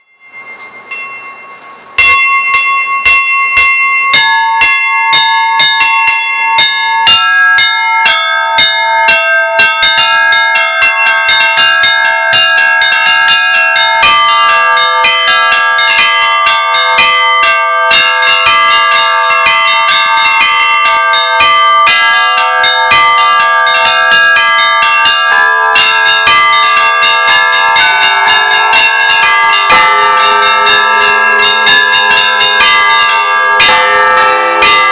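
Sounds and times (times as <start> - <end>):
bells ringing in a peal: 0.0 - 34.9
deeper bells ringing: 0.0 - 34.9.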